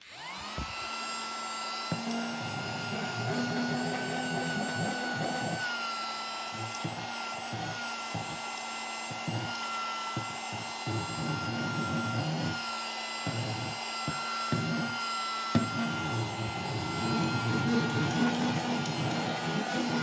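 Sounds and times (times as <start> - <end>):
handheld vacuum motor whine: 0.0 - 20.0.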